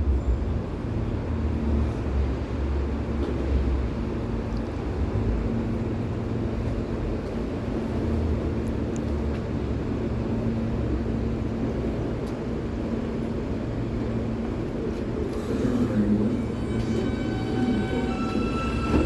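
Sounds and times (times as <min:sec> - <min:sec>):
subway train rumbling on track: 0:00.0 - 0:19.0.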